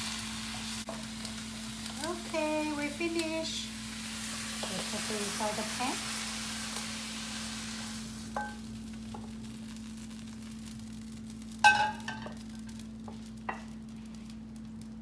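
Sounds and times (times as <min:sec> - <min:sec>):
sizzle in hot pan: 0:00.0 - 0:15.0.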